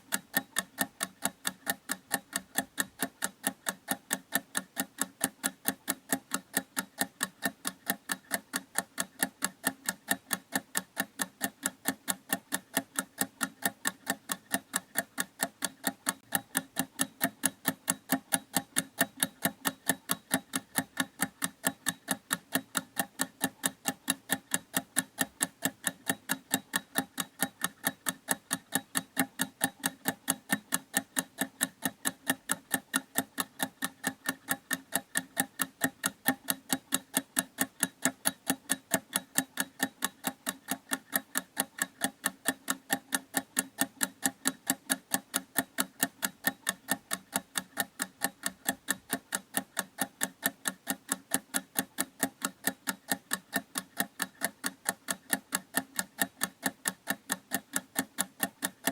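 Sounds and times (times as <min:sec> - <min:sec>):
mechanical clock ticking: 0:00.0 - 0:58.9.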